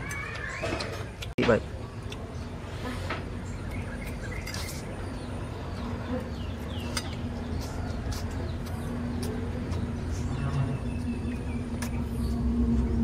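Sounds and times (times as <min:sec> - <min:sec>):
birds chirping: 0:00.0 - 0:13.0
steady low hum: 0:01.2 - 0:13.0.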